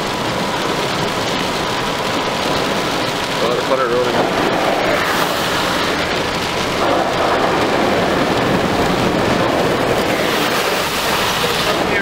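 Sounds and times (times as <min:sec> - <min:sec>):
heavy rain on car roof: 0:00.0 - 0:12.0
tyres hissing on wet road: 0:00.0 - 0:12.0.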